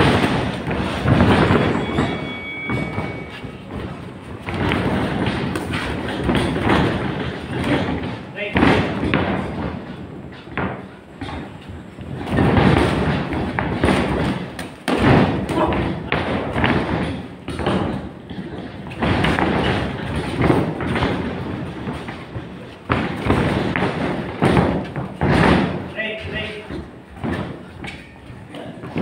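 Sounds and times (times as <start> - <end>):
boxing gloves punching thuds: 0.0 - 25.9.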